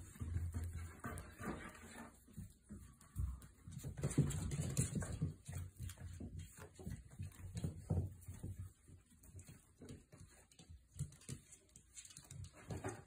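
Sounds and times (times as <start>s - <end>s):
puppies moving about: 0.0s - 13.0s.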